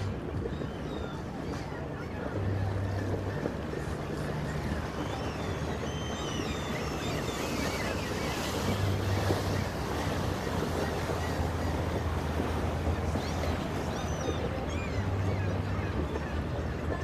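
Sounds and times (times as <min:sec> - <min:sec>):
boat engine hum: 0:00.0 - 0:17.0
water rushing along hull: 0:00.0 - 0:17.0
wind on microphone: 0:00.0 - 0:17.0.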